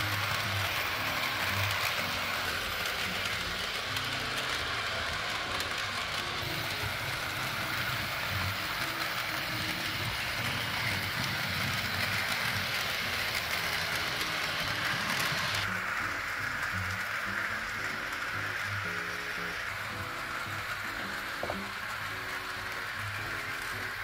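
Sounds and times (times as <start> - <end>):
model train motor whirring: 0.0 - 24.0
wheels rolling over rails: 0.0 - 24.0.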